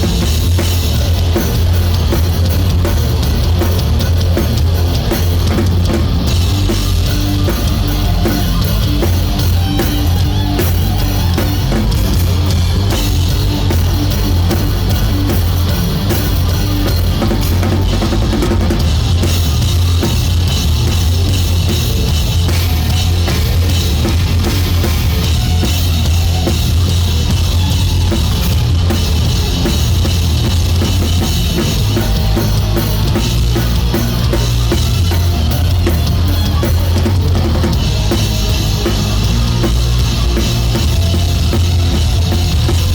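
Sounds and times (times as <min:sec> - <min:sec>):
drum kit beat: 0:00.0 - 0:42.9
rock band playing live: 0:00.0 - 0:42.9.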